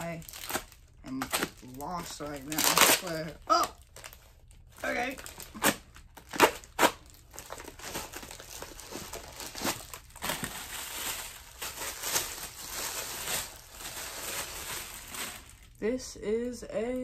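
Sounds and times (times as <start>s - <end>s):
plastic packaging crinkling: 0.0s - 15.8s.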